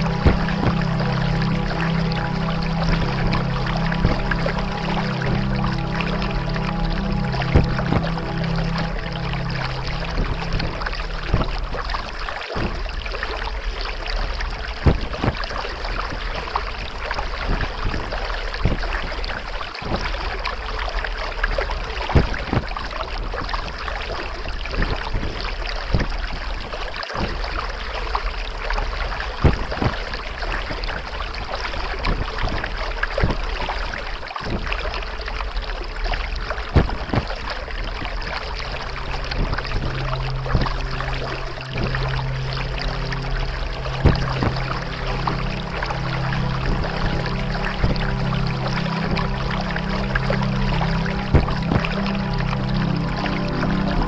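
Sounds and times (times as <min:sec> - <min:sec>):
water lapping and splashing: 0:00.0 - 0:54.0.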